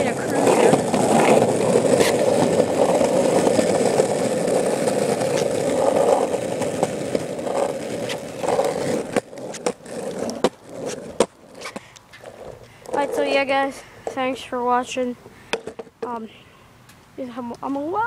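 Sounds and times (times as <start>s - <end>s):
skateboard rolling on asphalt: 0.0s - 16.3s.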